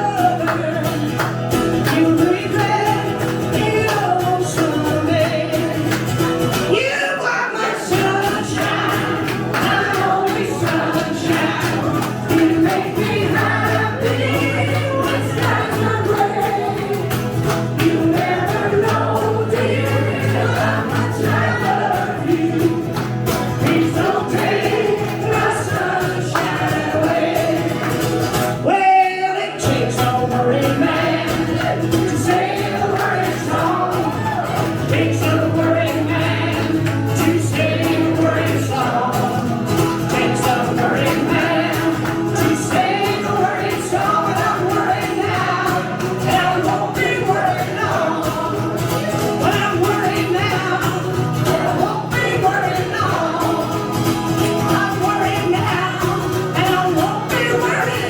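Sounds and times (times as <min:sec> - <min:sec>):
several voices singing together: 0:00.0 - 0:58.0.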